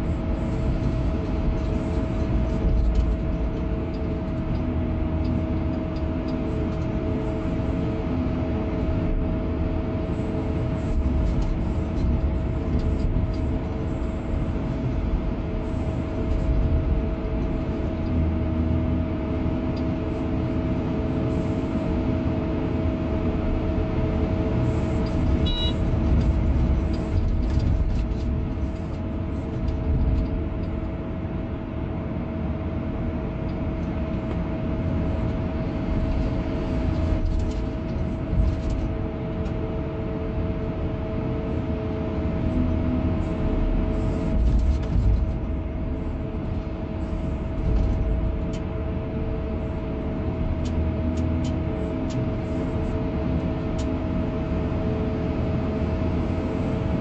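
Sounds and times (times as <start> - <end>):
excavator engine and hydraulics: 0.0 - 57.0.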